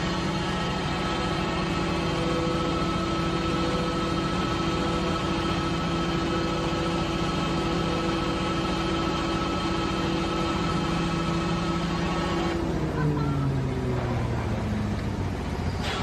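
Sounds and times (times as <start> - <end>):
harvester machinery drone: 0.0 - 16.0.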